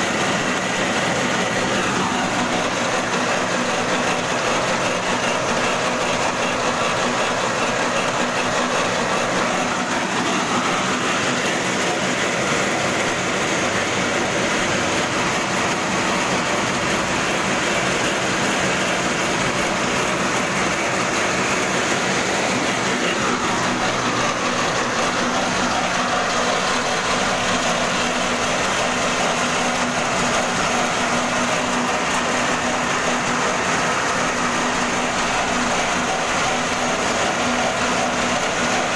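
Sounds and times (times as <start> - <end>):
corn kernels rattling down chute: 0.0 - 38.9
corn-cleaning machine running: 0.0 - 38.9.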